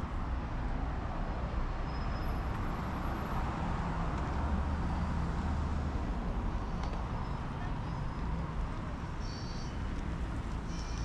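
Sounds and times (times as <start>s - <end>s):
passing cars rumble: 0.0s - 11.0s.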